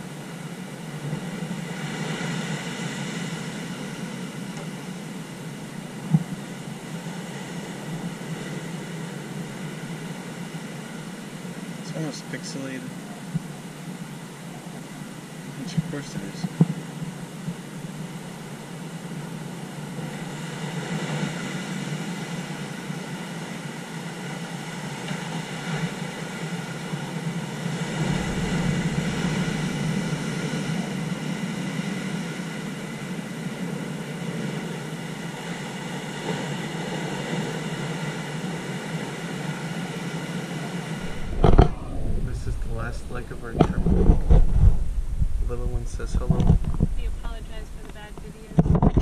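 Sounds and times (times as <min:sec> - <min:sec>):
waves breaking on rocks: 0:00.0 - 0:49.0.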